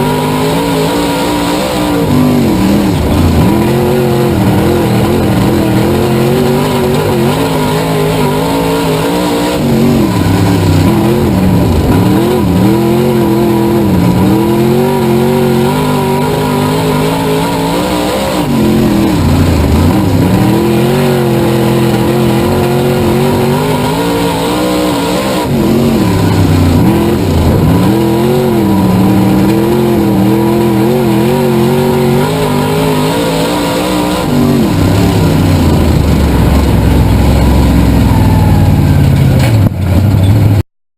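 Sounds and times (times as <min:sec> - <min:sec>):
race car engine revving: 0:00.0 - 0:40.6.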